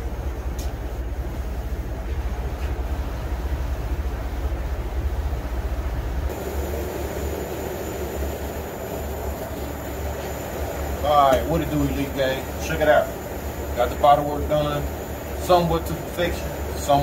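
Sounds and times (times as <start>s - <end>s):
low mechanical rumble: 0.0s - 17.0s
steady plain hum: 0.0s - 17.0s.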